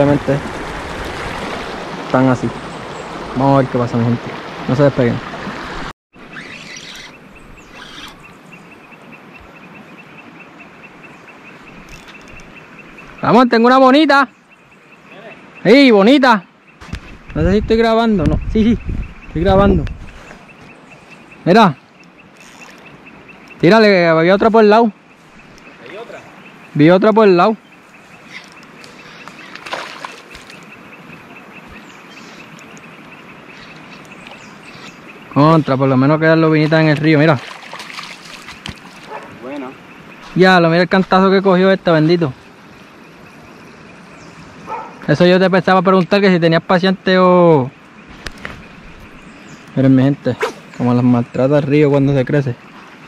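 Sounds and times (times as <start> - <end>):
insect chirping: 6.2 - 17.3, 17.9 - 53.0.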